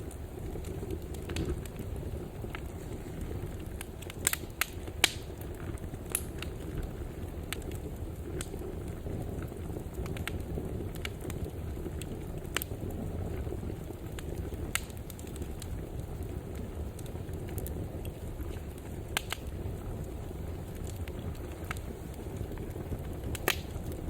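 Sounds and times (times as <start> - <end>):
fire crackling and popping: 0.0 - 24.0
fire roaring: 0.0 - 24.0.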